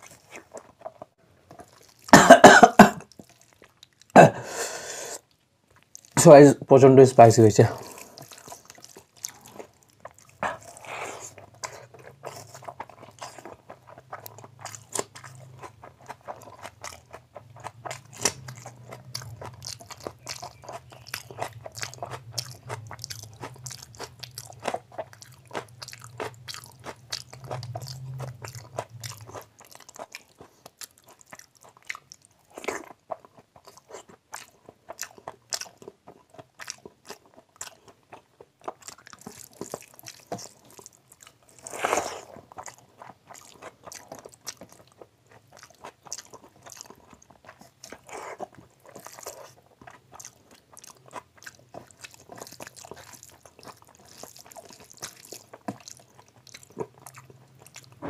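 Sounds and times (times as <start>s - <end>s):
wet chewing and smacking: 0.0s - 4.2s, 5.2s - 6.4s, 7.6s - 58.0s.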